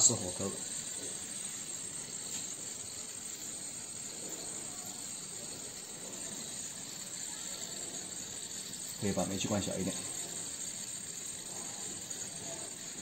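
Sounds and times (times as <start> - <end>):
burner flames hissing: 0.0 - 13.0.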